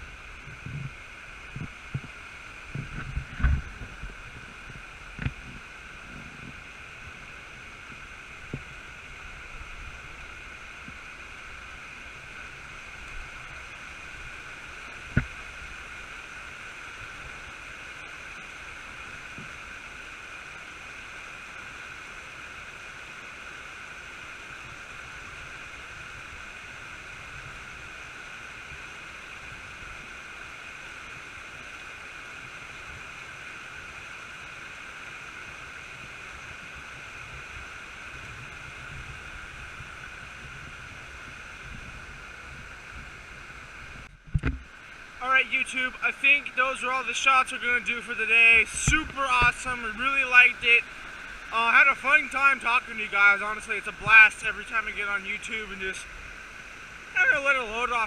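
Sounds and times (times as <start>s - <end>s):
creek water rushing over rocks: 0.0s - 58.0s.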